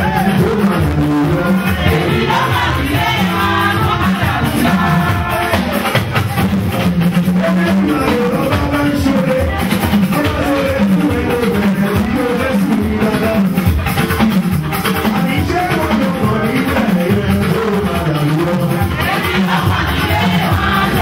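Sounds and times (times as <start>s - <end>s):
song with drums and percussion: 0.0s - 21.0s.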